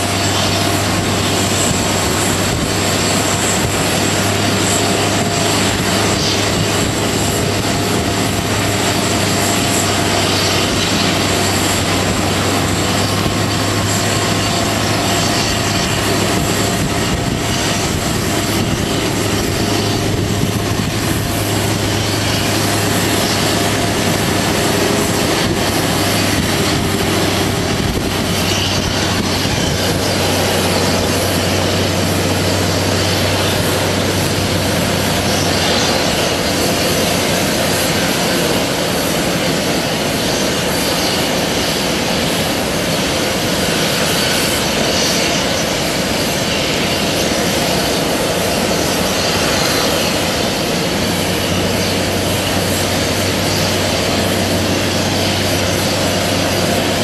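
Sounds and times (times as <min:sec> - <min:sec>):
jet engine rumble and whine: 0:00.0 - 0:57.0.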